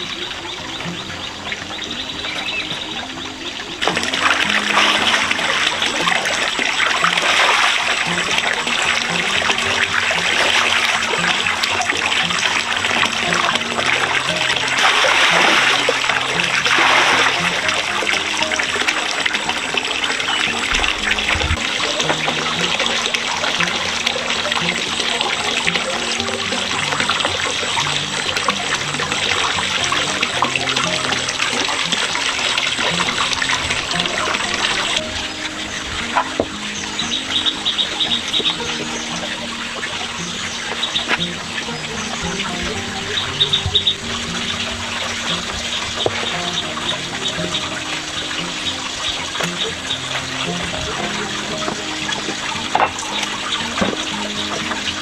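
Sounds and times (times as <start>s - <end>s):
quiet background music: 0.0s - 55.0s
water trickling and splashing: 0.0s - 55.0s.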